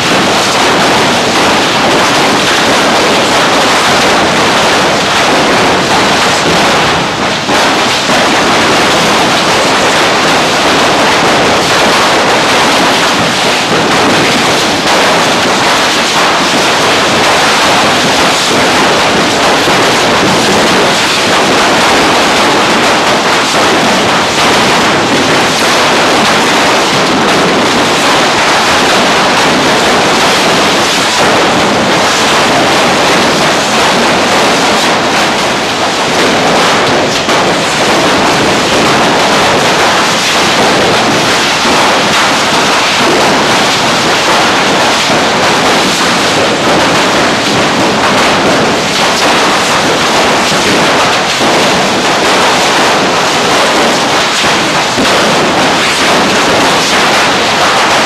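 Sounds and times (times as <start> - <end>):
fireworks hissing sparks: 0.0 - 58.0.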